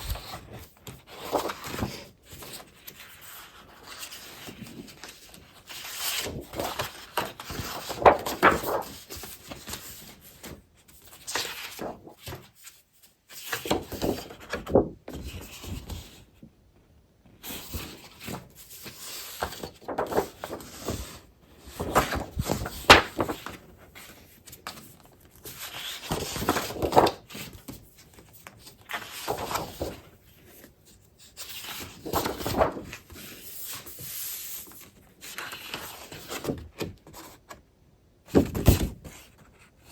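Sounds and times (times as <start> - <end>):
paper rustling and crinkling: 0.0 - 16.4, 17.4 - 37.6.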